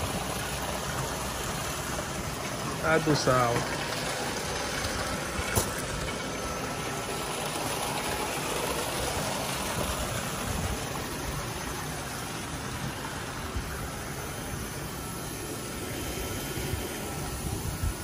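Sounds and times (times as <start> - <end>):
machine hum: 0.0 - 18.0
water pouring and churning: 0.0 - 18.0.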